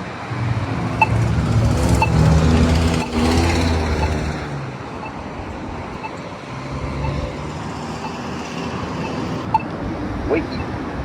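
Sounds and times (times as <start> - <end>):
vehicle engine passing: 0.2 - 9.0
pedestrian button locator tone ticking: 0.8 - 9.7.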